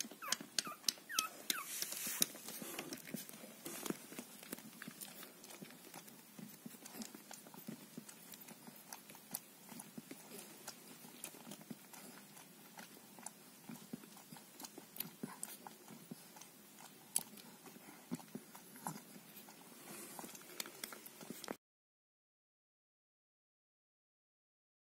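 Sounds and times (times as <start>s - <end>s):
puppies suckling: 0.0s - 21.6s.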